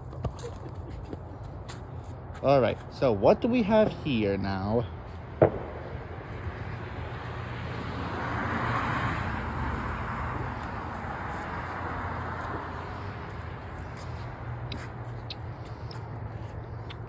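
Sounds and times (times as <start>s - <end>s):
car passing: 1.4s - 17.0s.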